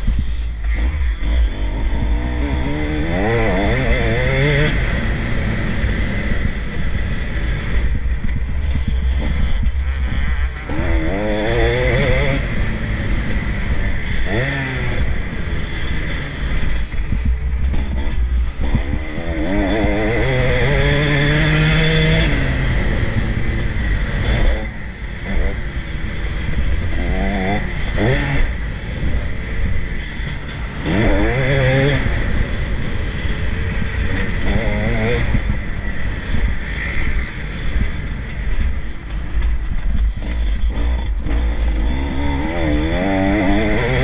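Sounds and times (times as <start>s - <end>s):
motocross bike engines revving: 0.0s - 44.0s.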